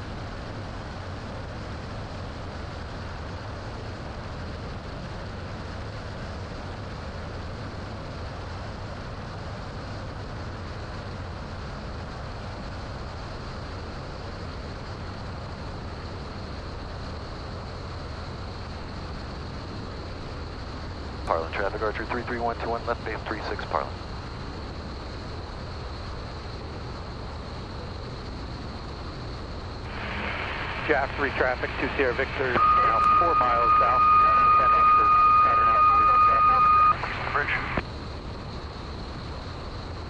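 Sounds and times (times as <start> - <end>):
light aircraft engine drone in cabin: 0.0 - 40.0.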